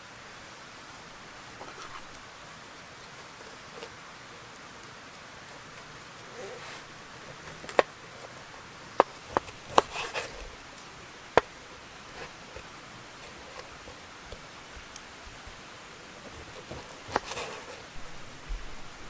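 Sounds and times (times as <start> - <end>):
handling rustle: 0.8 - 19.0.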